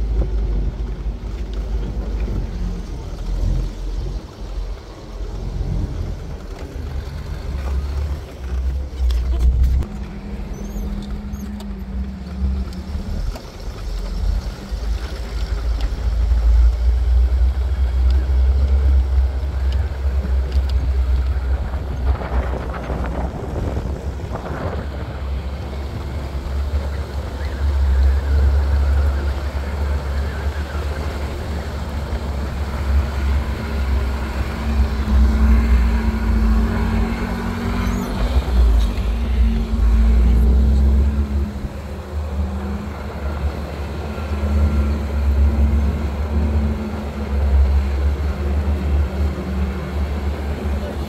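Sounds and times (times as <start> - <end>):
off-road vehicle engine rumbling: 0.0 - 51.0.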